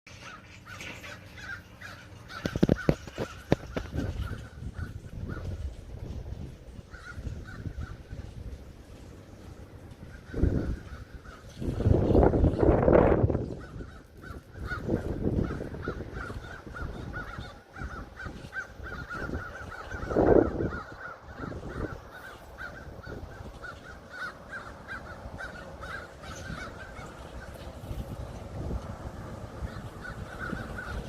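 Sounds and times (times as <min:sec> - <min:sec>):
crows cawing: 0:00.1 - 0:05.7, 0:06.8 - 0:08.5, 0:09.8 - 0:12.4, 0:13.2 - 0:28.0, 0:29.5 - 0:31.0.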